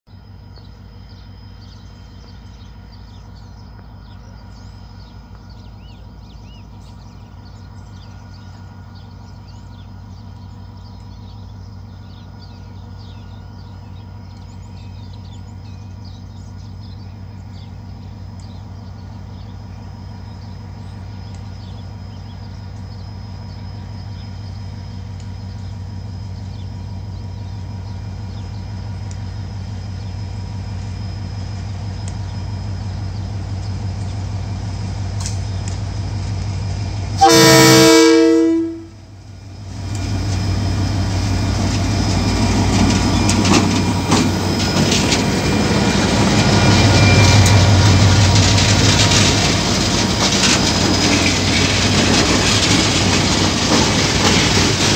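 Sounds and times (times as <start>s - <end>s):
locomotive engine drone: 0.1s - 54.9s
birds chirping: 0.5s - 54.9s.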